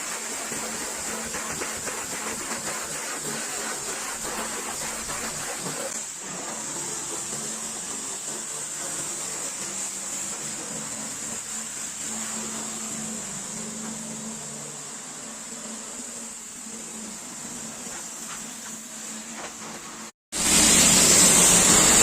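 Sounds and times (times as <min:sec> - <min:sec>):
pressure washer spraying water: 0:00.0 - 0:19.4, 0:20.3 - 0:22.0.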